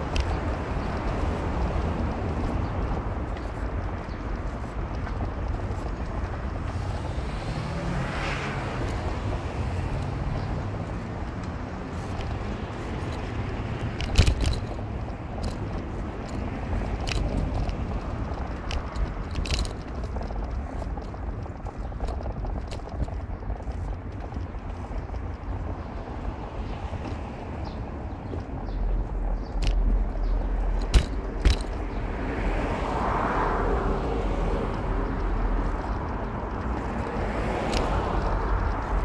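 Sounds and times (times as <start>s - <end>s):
road rumble: 0.0s - 39.0s.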